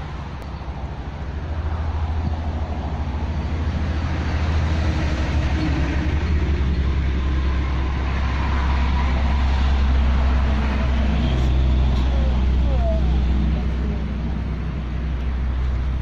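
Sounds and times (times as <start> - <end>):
low rumble with hiss: 0.0 - 16.0.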